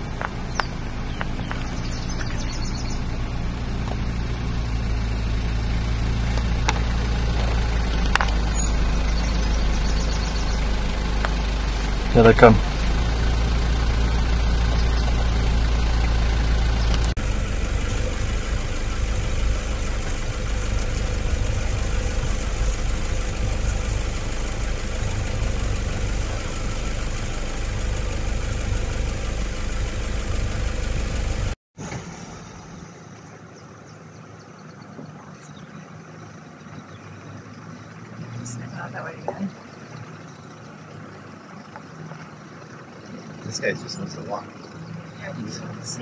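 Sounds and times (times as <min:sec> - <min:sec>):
vehicle engine idling: 0:00.0 - 0:46.0.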